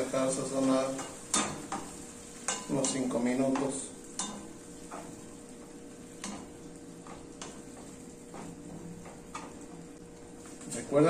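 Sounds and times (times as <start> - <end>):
sauce sizzling in frying pan: 0.0 - 11.0
spatula scraping and tapping pan: 0.8 - 10.6.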